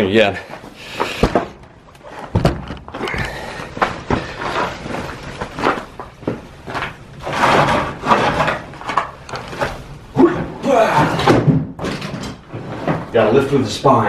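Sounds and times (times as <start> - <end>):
scraping: 0.4 - 13.9
knocks and clunks: 1.1 - 4.9, 5.6 - 13.2.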